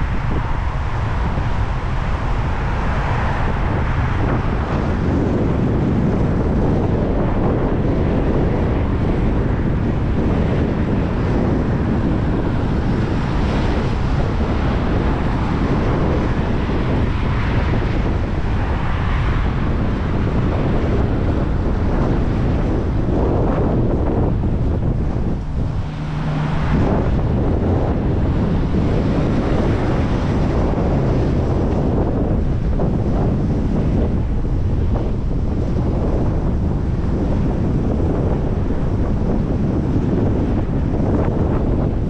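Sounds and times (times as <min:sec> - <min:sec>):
strong wind on microphone: 0:00.0 - 0:42.0.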